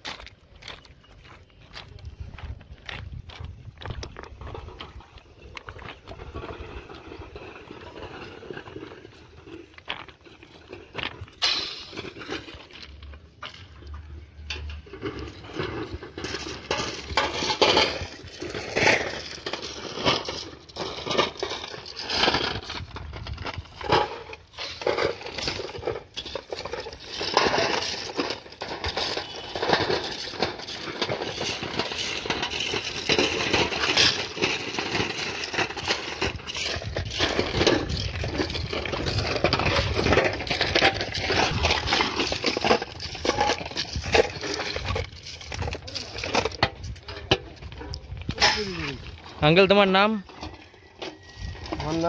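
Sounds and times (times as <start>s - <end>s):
track ballast crunching and clinking: 0.0s - 52.0s.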